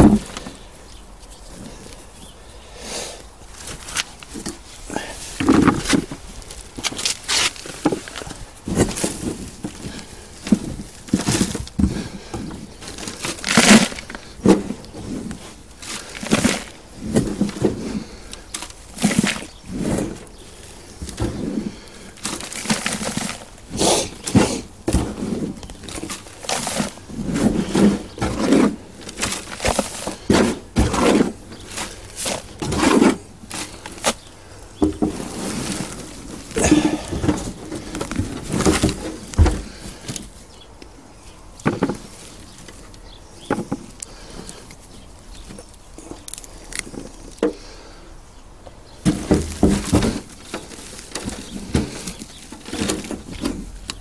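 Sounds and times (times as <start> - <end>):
hands rummaging through compost: 0.0 - 54.0.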